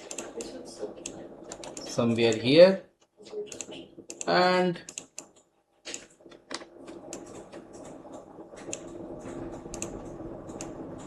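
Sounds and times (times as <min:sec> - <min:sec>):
keyboard and mouse clicking: 0:00.0 - 0:02.5, 0:03.5 - 0:11.0
steady low hum: 0:00.0 - 0:11.0.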